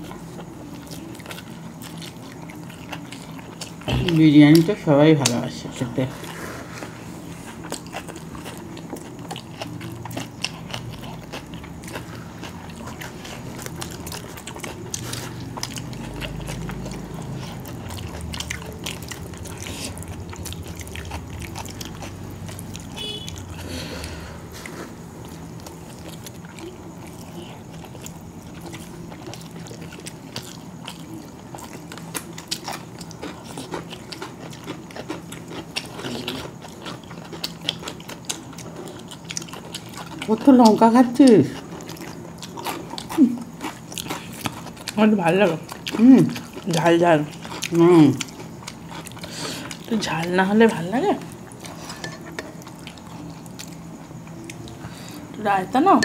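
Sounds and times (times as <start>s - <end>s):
people chewing and biting: 0.0s - 55.4s
steady low hum: 0.0s - 56.0s.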